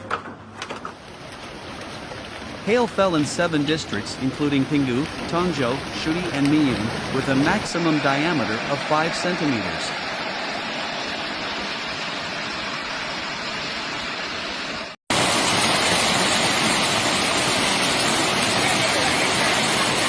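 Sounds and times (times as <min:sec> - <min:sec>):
hail and rain downpour: 0:00.6 - 0:20.0.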